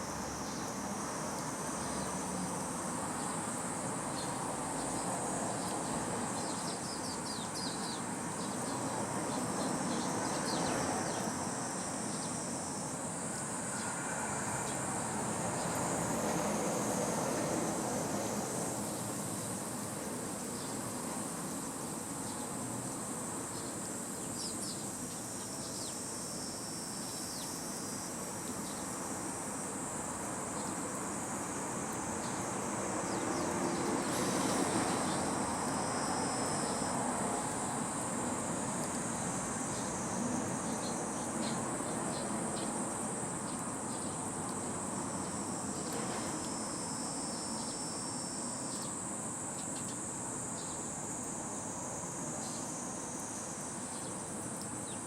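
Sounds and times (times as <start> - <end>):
high-pitched insects droning: 0.0 - 55.0
lower insect trill: 0.0 - 55.0.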